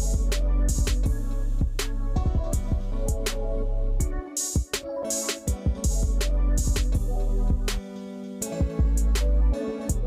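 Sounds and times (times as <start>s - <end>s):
instrumental music with drum beat: 0.0s - 3.4s, 4.0s - 10.0s.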